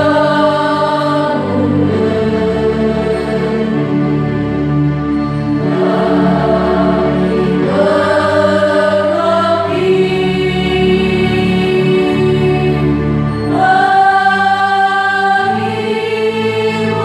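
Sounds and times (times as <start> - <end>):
mixed choir singing: 0.0 - 4.5, 5.4 - 17.0.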